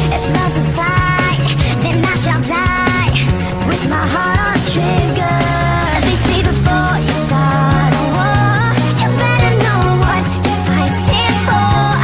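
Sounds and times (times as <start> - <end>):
sped-up pop-rock song: 0.0 - 12.0.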